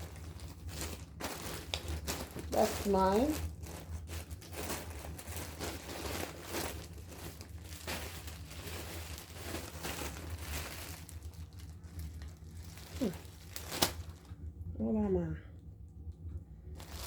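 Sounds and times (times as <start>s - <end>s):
plastic packaging crinkling: 0.0s - 14.4s, 16.7s - 17.0s
steady low hum: 0.0s - 17.0s.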